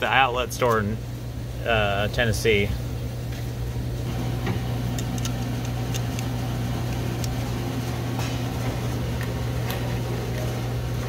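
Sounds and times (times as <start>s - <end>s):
workshop machinery hum: 0.0s - 11.0s.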